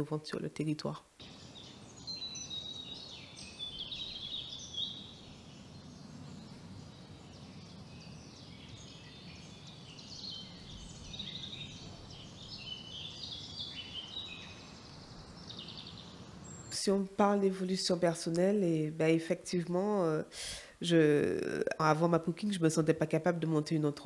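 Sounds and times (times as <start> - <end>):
small birds chirping: 0.0 - 19.6
faint background noise: 0.0 - 24.0.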